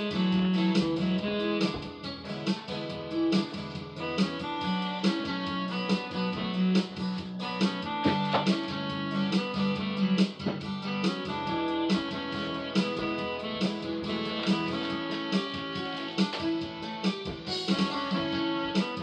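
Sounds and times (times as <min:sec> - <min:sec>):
guitar music: 0:00.0 - 0:19.0.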